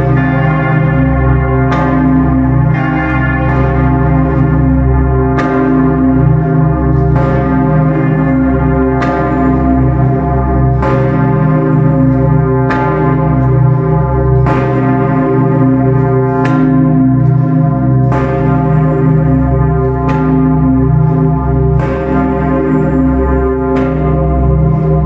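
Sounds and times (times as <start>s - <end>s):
church bells ringing in a peal: 0.0s - 25.0s.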